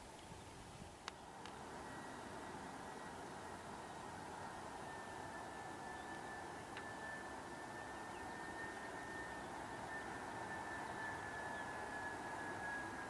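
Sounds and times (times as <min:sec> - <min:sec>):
jet engines rushing hiss and whine: 0:00.0 - 0:13.0.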